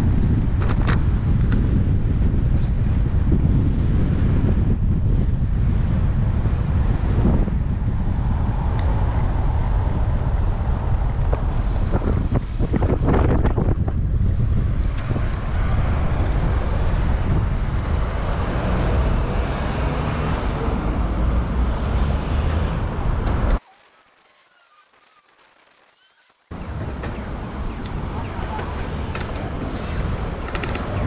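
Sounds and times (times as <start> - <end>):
wind rushing over microphone: 0.0 - 23.6, 26.5 - 31.0
city traffic noise: 0.0 - 31.0.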